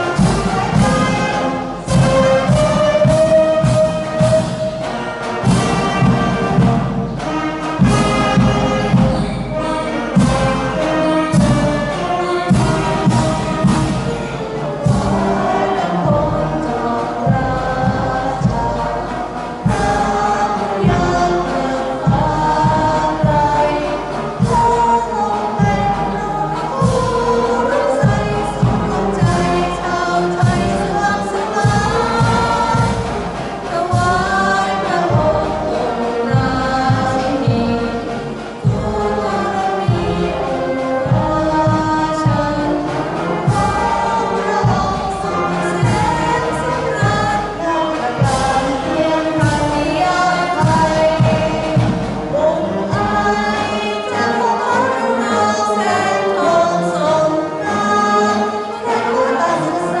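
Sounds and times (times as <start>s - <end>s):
marching band drums: 0.0s - 58.1s
voices singing slow song: 0.0s - 60.0s.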